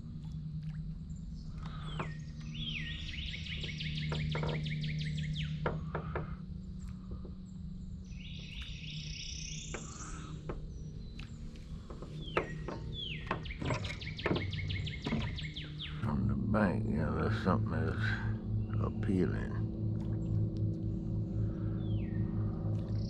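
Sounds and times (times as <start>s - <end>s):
steady low hum: 0.0s - 23.0s
birds chirping and whistling: 1.3s - 6.8s, 7.4s - 20.3s, 21.2s - 23.0s.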